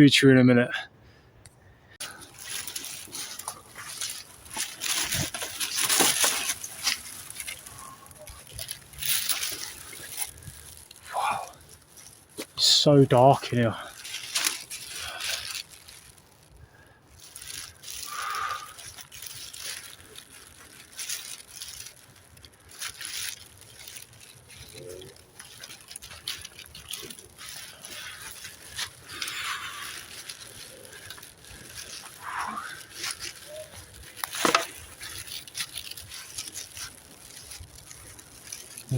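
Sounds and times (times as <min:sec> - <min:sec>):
footsteps crunching on leaf litter: 0:02.0 - 0:38.9.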